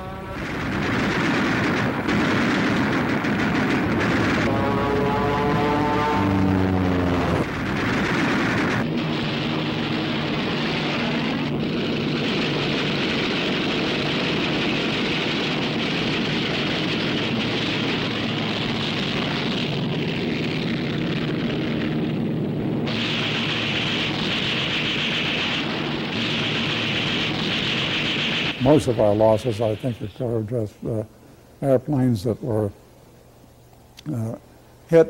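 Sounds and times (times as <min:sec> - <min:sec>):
dense crackling noise: 0:00.0 - 0:35.0
propeller aircraft engines droning: 0:00.0 - 0:35.0.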